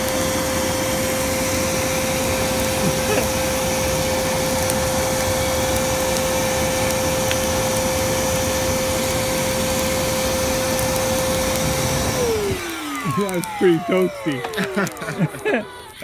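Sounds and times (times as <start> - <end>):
blower motor whine: 0.0 - 16.0.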